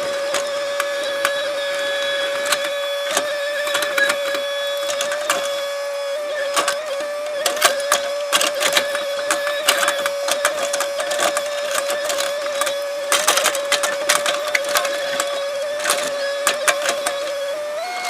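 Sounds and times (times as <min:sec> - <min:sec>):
excavator engine whine: 0:00.0 - 0:18.0
clattering knocks and rattles: 0:00.2 - 0:05.7, 0:06.4 - 0:17.5.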